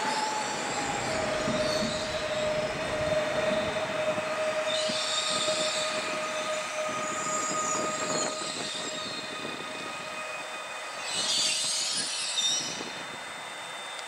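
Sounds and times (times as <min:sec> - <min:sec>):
high-pitched wheel squeal: 0:00.0 - 0:13.2
train high whine: 0:00.0 - 0:14.0
train rumble: 0:00.0 - 0:14.0.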